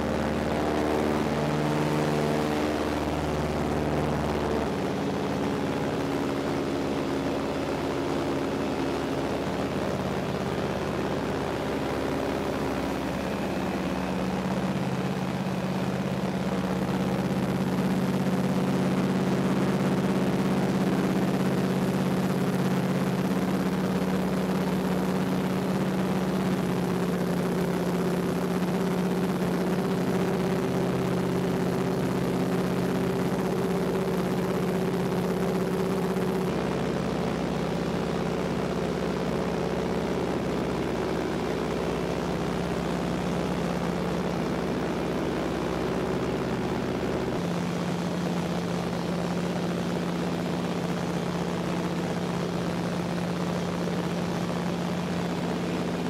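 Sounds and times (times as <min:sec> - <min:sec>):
propeller plane engine from cabin: 0:00.0 - 0:56.0.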